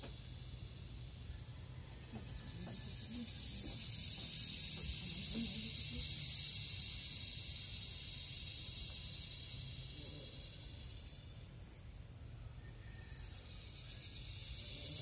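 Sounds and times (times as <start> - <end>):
cicada buzzing: 0.0 - 15.0.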